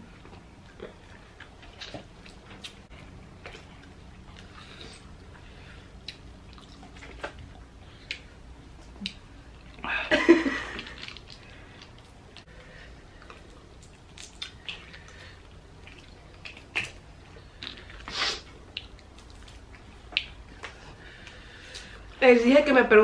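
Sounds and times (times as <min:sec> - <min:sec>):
chewing: 0:00.0 - 0:09.8, 0:10.7 - 0:22.2.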